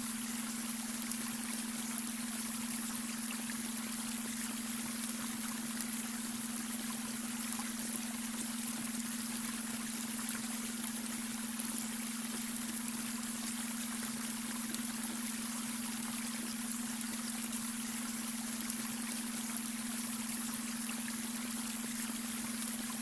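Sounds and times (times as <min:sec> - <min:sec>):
brook water babbling: 0:00.0 - 0:23.0.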